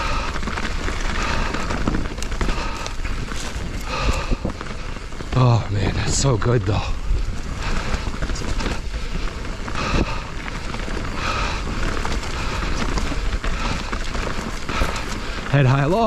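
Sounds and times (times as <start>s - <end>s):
bike clattering over bumps: 0.0s - 16.0s
bike tyres rolling over dirt: 0.0s - 16.0s.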